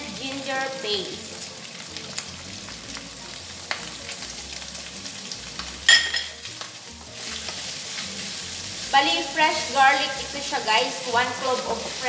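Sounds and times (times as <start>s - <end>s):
bacon sizzling in a wok: 0.0s - 12.0s.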